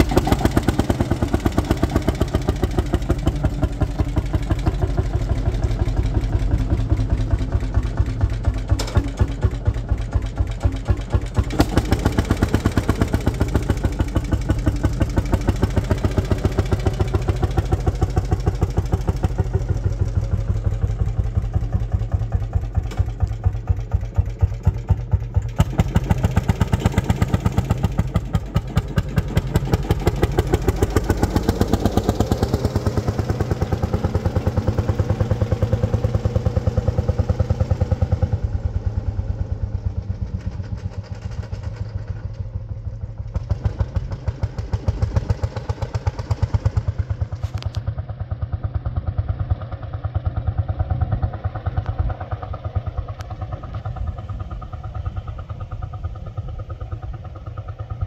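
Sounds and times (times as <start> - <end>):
tractor engine popping: 0.0 - 58.0.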